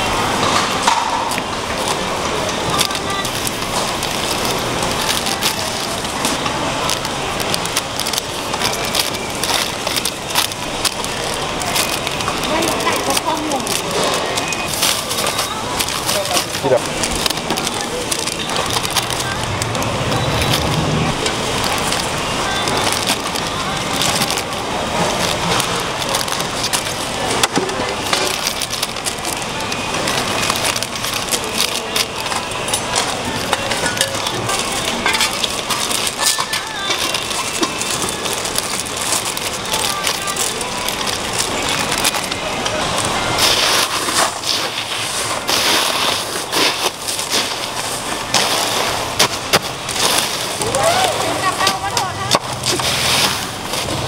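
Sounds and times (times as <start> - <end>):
market crowd hubbub: 0.0 - 54.0
plastic bag crinkling: 0.0 - 54.0
sharp crackles and clicks: 0.0 - 54.0.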